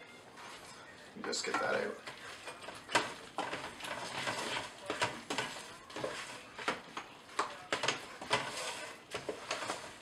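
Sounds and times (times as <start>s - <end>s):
spoon stirring thick pasta: 0.0s - 10.0s
spoon scraping and knocking a pot: 1.2s - 10.0s.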